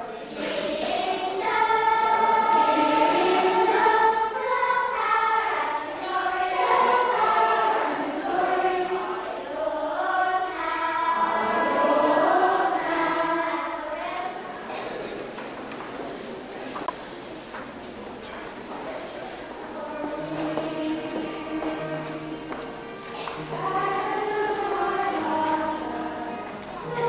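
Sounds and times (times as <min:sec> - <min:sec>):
group singing a hymn: 0:00.0 - 0:15.0, 0:19.5 - 0:27.0.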